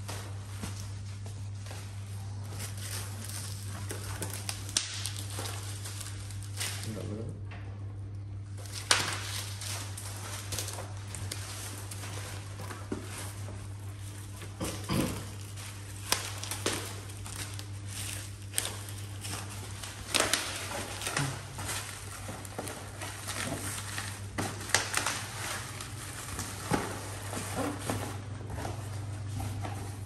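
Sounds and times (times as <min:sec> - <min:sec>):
bubble wrap crinkling: 0:00.0 - 0:07.2, 0:08.4 - 0:30.0
steady low hum: 0:00.0 - 0:30.0.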